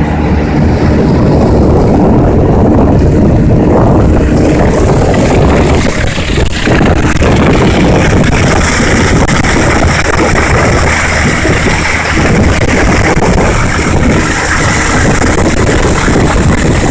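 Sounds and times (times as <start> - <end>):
boat motor running: 0.0 - 16.9
wind buffeting microphone: 0.0 - 16.9.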